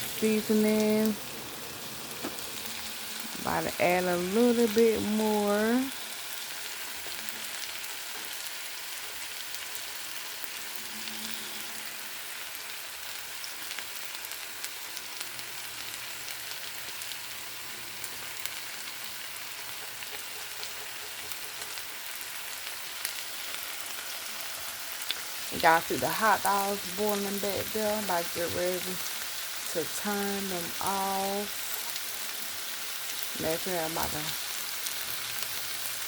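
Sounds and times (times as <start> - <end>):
food sizzling and bubbling: 0.0 - 36.0.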